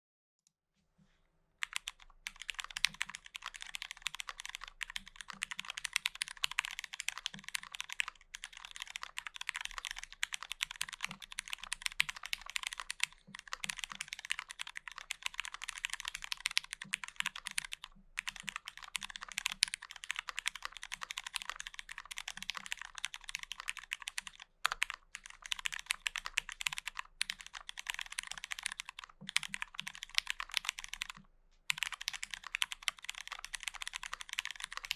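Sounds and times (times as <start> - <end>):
mechanical keyboard typing: 1.6 - 34.9.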